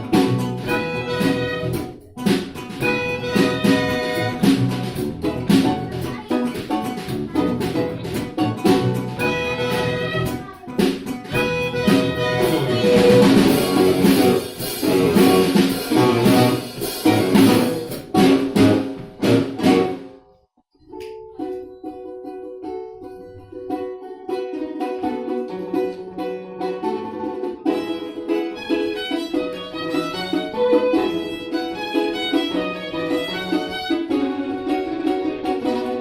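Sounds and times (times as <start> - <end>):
plucked strings and drums: 0.0 - 20.2, 20.9 - 36.0
held instrumental notes: 0.0 - 20.3, 20.9 - 36.0.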